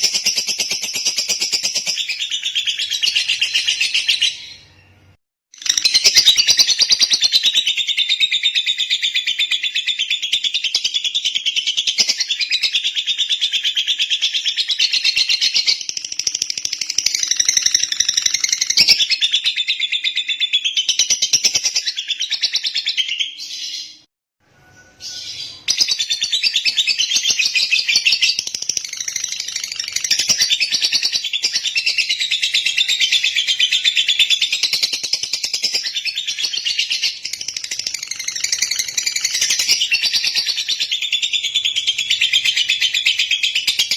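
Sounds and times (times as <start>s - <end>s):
lovebird chirping: 0.0s - 43.9s.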